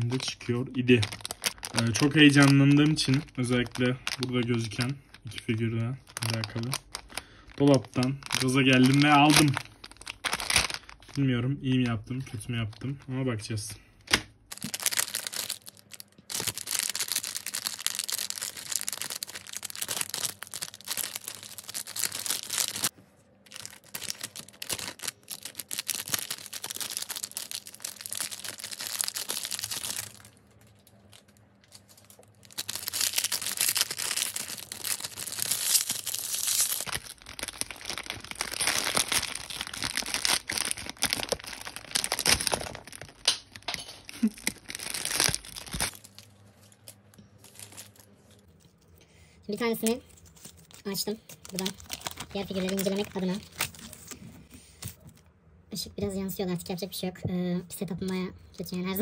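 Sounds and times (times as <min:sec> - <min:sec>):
plastic packet crinkling and tearing: 0:00.0 - 0:48.9, 0:49.8 - 0:54.2.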